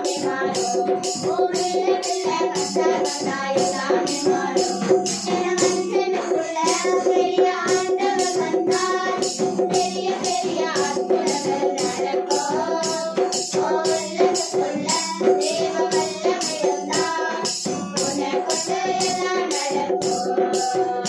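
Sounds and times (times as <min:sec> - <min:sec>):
child singing into a microphone: 0:00.0 - 0:21.0
musical accompaniment: 0:00.0 - 0:21.0
tambourine beat: 0:00.0 - 0:21.0.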